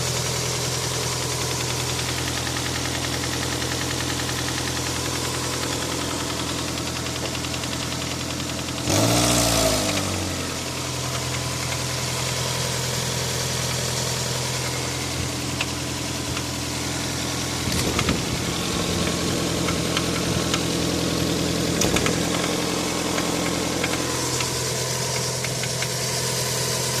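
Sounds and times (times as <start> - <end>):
car engine idling: 0.0 - 27.0
engine knocking: 0.0 - 27.0.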